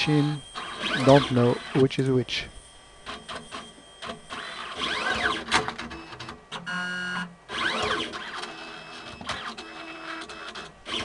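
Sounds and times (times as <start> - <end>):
steady buzzing tone: 0.0 - 10.1
robot arm motor whine: 0.0 - 11.0.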